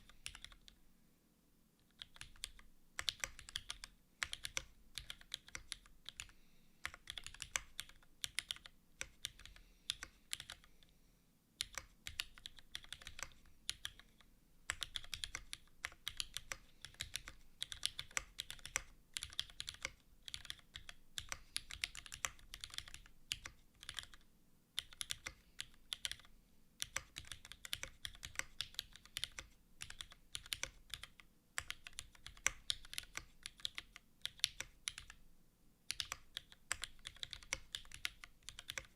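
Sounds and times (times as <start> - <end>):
mechanical keyboard typing: 0.0 - 0.8, 1.8 - 10.7, 11.6 - 35.2, 35.9 - 38.9.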